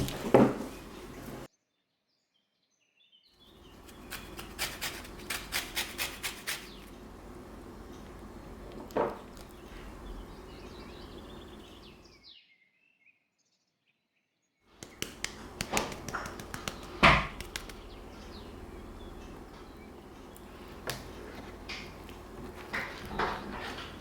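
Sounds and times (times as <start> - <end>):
steady background hum: 0.0 - 1.5, 3.5 - 12.2, 14.8 - 24.0.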